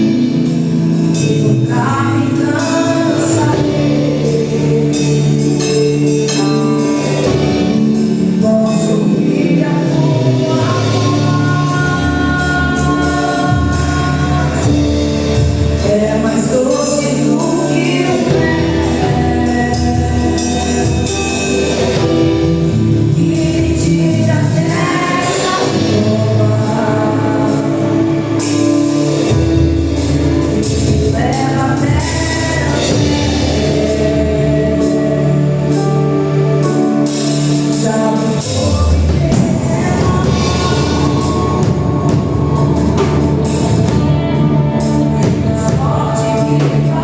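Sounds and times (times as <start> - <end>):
full band playing: 0.0 - 47.0
gospel singing: 0.0 - 47.0.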